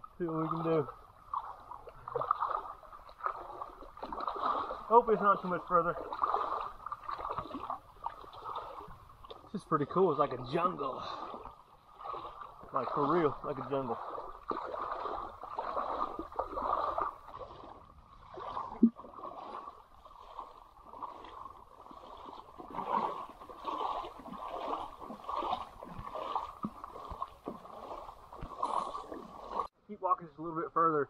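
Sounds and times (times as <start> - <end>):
footsteps wading through water: 0.0 - 29.8.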